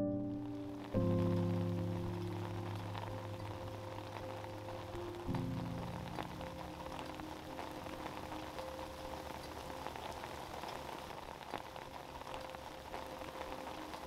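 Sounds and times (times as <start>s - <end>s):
heavy rain on water: 0.2s - 14.0s.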